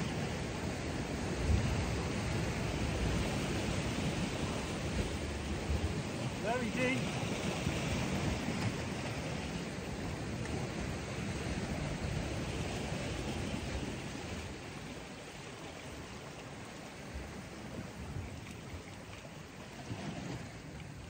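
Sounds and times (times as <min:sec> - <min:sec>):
sea washing on rocky shore: 0:00.0 - 0:21.0
wind: 0:00.0 - 0:21.0.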